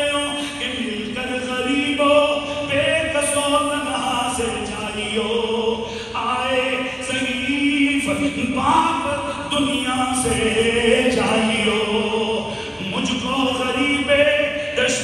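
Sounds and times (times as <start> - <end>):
slow melodic vocal chanting: 0.0 - 15.0.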